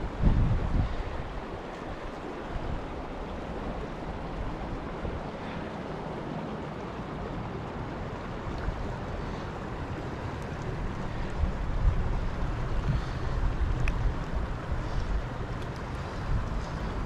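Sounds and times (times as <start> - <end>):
river flowing over rocks: 0.0 - 17.0.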